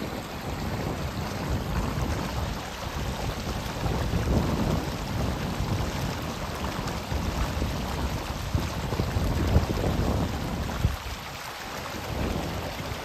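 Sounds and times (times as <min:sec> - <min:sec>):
river water running over stones: 0:00.0 - 0:13.0
wind buffeting microphone: 0:00.0 - 0:13.0.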